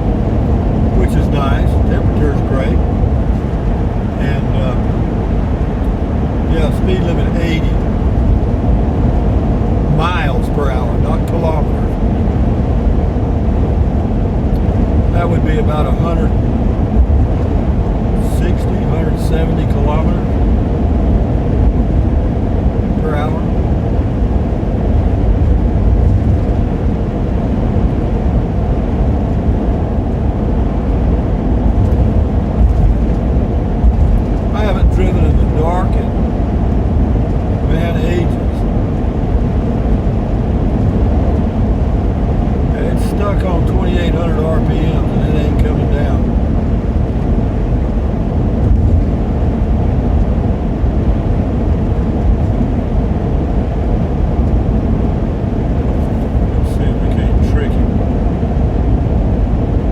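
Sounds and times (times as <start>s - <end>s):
road noise inside vehicle: 0.0s - 59.9s
strong wind: 0.0s - 59.9s
vehicle engine rumble: 0.0s - 59.9s.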